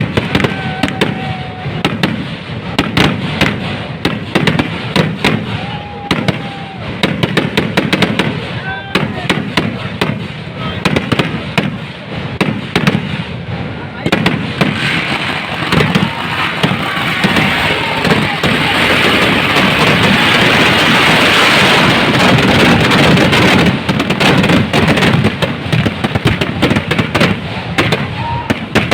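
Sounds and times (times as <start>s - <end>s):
fireworks crackle: 0.0s - 28.9s
fireworks cracks and bangs: 0.0s - 28.9s.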